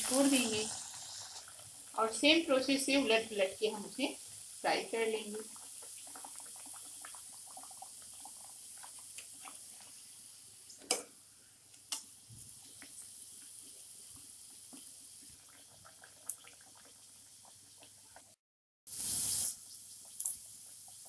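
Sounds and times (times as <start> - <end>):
food sizzling in hot oil: 0.0 - 18.3, 18.9 - 21.0.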